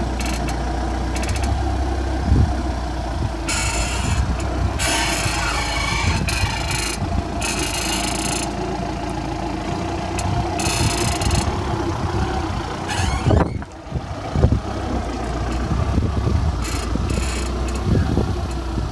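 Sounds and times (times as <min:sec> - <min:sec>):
car engine idling: 0:00.0 - 0:18.9
steering creaking: 0:00.0 - 0:18.9.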